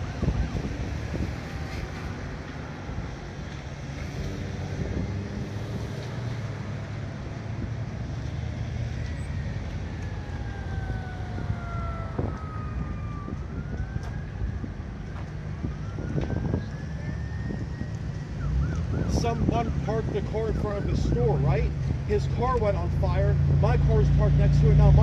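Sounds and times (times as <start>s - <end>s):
emergency siren wailing: 0.0s - 25.0s
low rumble of traffic: 0.0s - 25.0s
wind: 0.0s - 25.0s.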